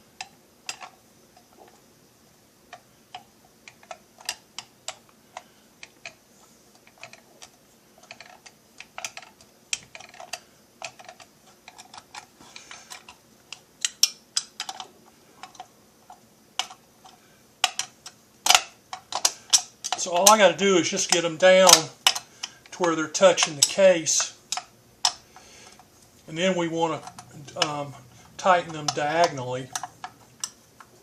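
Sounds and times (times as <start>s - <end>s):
clicks of hand tools and screws: 0.2s - 1.8s, 2.7s - 6.2s, 6.8s - 20.4s, 21.0s - 25.9s, 27.0s - 31.0s.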